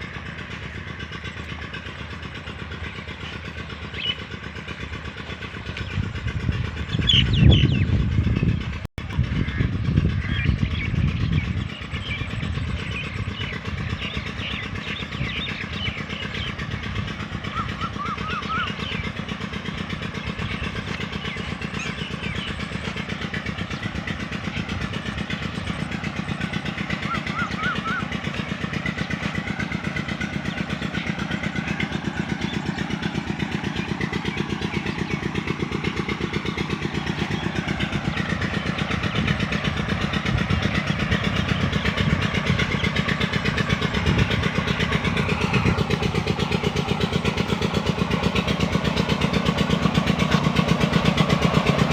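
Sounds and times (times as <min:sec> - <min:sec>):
engine running steadily: 0:00.0 - 0:51.9.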